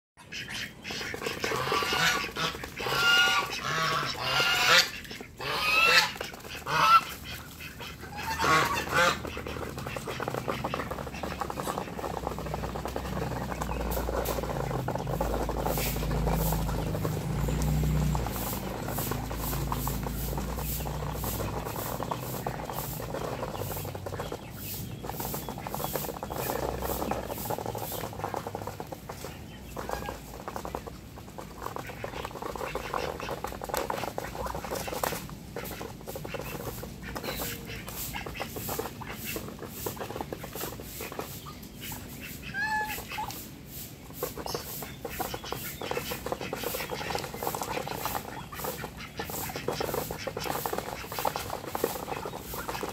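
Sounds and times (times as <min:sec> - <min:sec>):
bills pecking at feed: 0:00.2 - 0:52.9.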